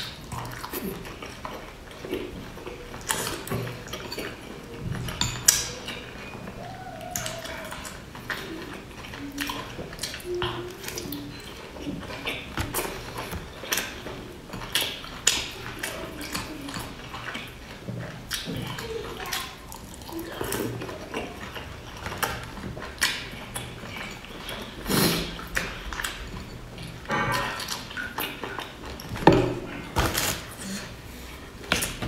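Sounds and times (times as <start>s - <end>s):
wet chewing and mouth sounds: 0.0s - 32.0s.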